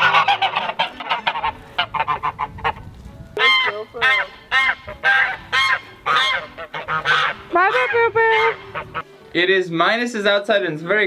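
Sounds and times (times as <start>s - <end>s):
geese honking: 0.0s - 9.1s.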